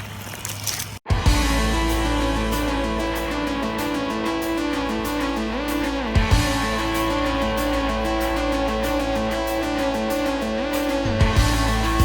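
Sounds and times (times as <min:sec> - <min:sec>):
guitar-led music with bass: 0:01.1 - 0:12.0.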